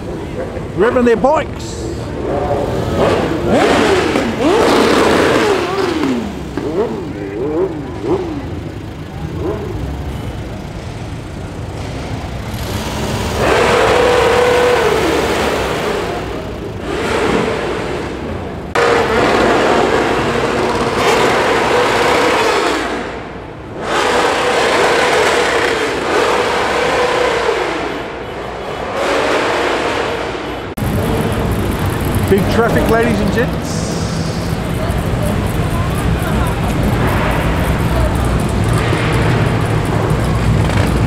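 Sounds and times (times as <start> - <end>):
vehicle engines revving hard: 0.0 - 41.0.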